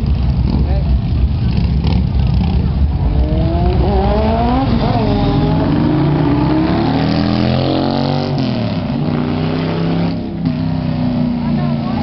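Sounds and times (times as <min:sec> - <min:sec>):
motorcycles revving and passing: 0:00.0 - 0:12.0.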